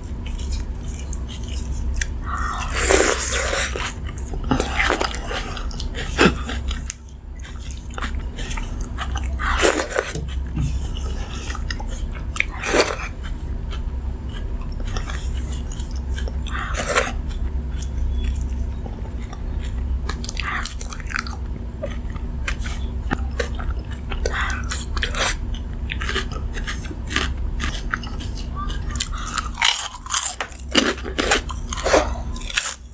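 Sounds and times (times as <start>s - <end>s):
steady low hum: 0.0s - 32.9s
chewing: 0.2s - 32.9s.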